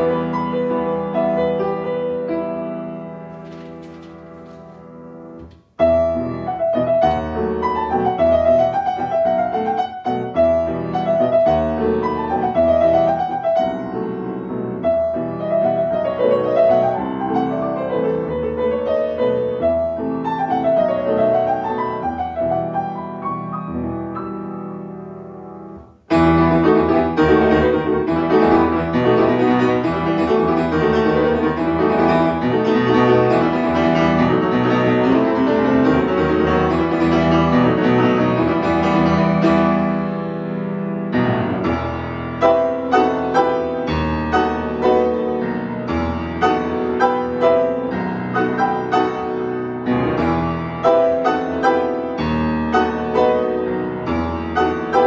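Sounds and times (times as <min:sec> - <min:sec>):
solo piano piece: 0:00.0 - 0:55.0.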